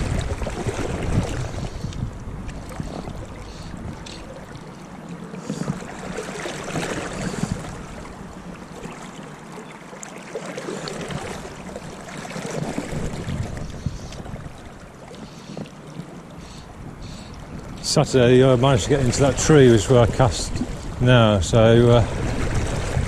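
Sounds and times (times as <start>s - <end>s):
wind buffeting microphone: 0.0s - 4.8s, 5.4s - 9.0s, 11.0s - 23.0s
river flowing: 0.0s - 22.8s.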